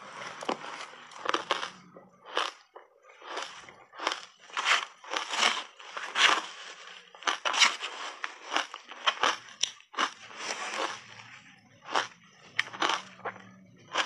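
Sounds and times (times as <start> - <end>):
shaved ice crunching while chewed: 0.3 - 14.0.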